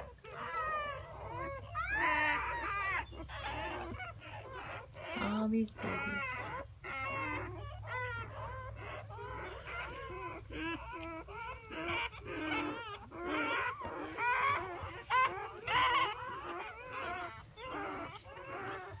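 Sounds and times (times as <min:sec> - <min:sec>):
puppies whimpering and squealing: 0:00.0 - 0:19.0.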